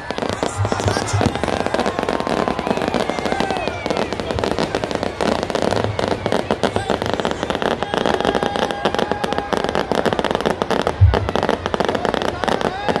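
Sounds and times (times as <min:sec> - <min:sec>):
fireworks and firecrackers crackling: 0:00.0 - 0:13.0.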